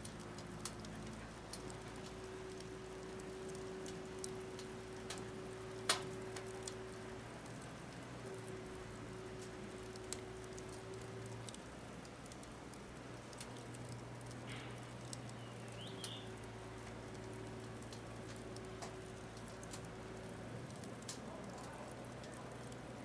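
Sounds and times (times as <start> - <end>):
faint steady hum: 0.0 - 23.0
firewood crackling: 0.0 - 23.0.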